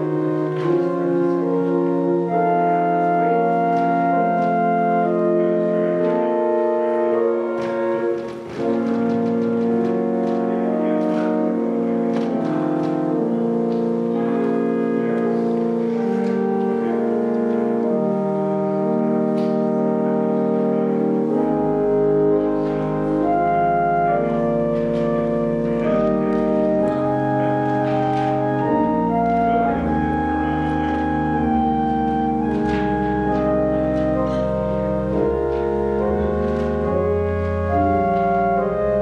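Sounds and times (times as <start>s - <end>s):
organ playing slow chords: 0.0s - 39.0s.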